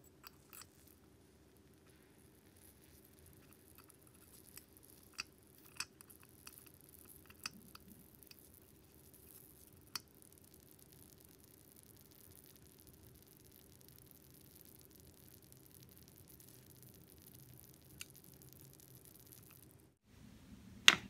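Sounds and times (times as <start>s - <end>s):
soft mixing of filling: 0.0s - 20.2s.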